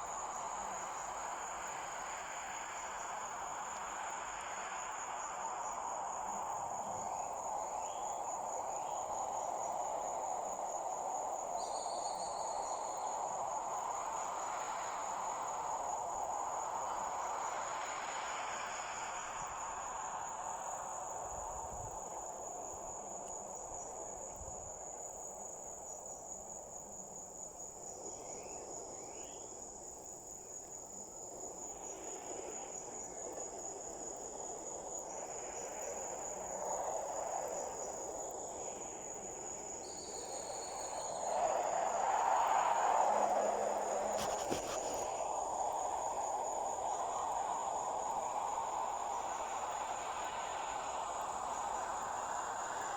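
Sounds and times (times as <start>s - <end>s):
insects trilling: 0.0s - 52.9s
soft rushing background noise: 0.0s - 52.9s.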